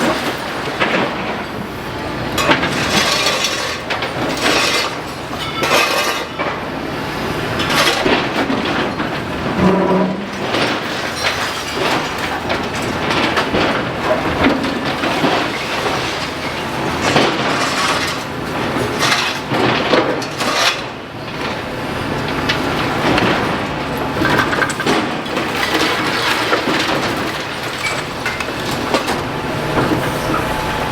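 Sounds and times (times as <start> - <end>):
masonry and debris crashing: 0.0 - 30.9.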